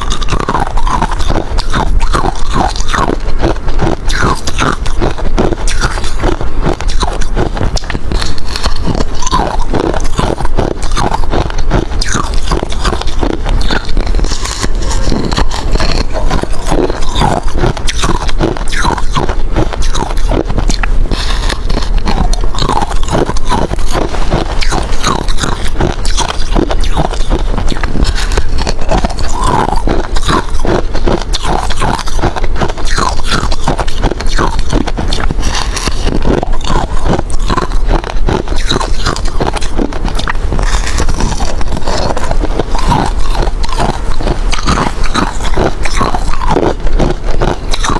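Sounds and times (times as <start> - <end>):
person chewing crushed ice: 0.0 - 47.9.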